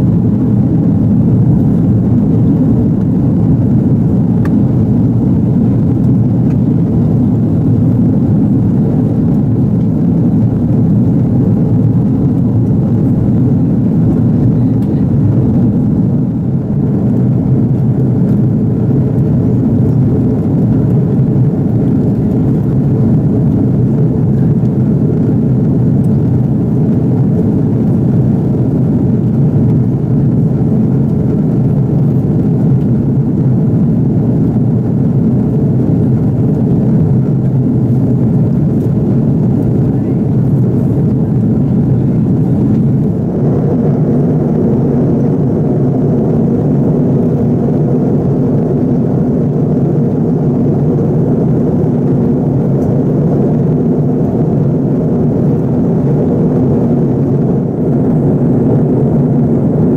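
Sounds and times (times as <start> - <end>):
jet engines rumbling: 0.0 - 59.9
rushing air in aircraft cabin: 0.0 - 59.9.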